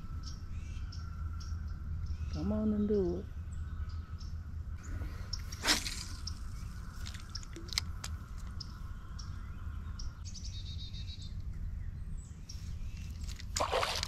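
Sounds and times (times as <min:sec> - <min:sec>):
small birds chirping: 0:00.0 - 0:13.6
low wind rumble: 0:00.0 - 0:14.0.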